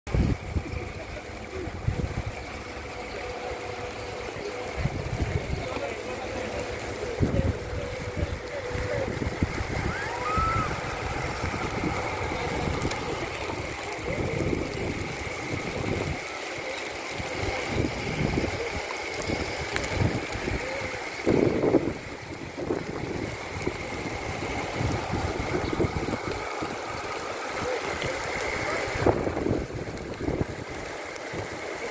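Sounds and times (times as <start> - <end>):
wind gusting over microphone: 0.1 - 1.0, 1.6 - 2.7, 4.7 - 5.8, 7.0 - 16.2, 17.3 - 31.6
steady outdoor hiss: 0.1 - 31.9.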